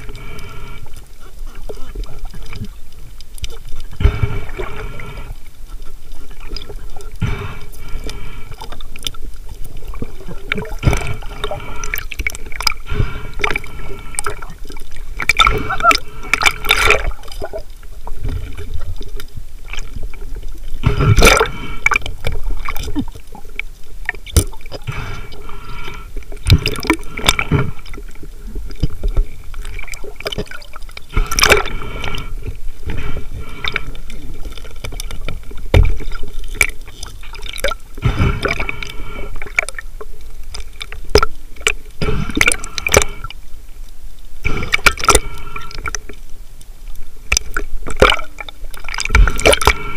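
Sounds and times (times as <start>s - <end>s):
underwater water swishing and bubbling: 0.0s - 49.9s.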